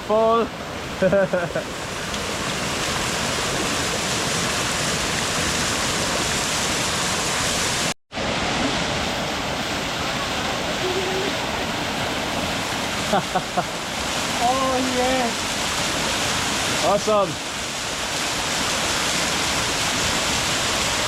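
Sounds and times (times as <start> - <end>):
small waterfall splashing: 0.2 - 21.0.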